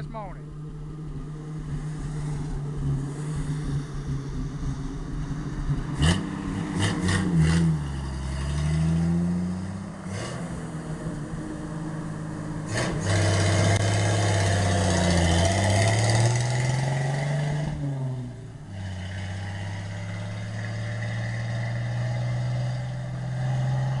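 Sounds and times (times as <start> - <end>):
pickup engine revving: 0.4 - 24.0.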